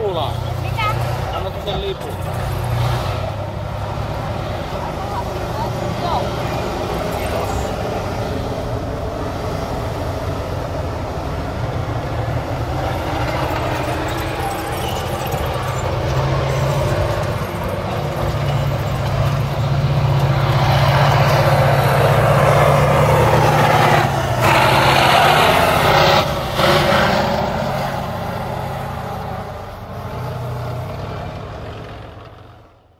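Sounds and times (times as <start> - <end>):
tank diesel engine running hard: 0.0 - 32.9
tank tracks on dirt: 0.0 - 32.9.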